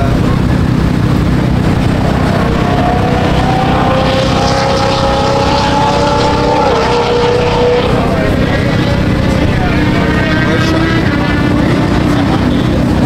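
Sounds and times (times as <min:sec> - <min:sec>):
steady higher tones: 0:00.0 - 0:12.8
vehicle engine running: 0:00.0 - 0:13.0.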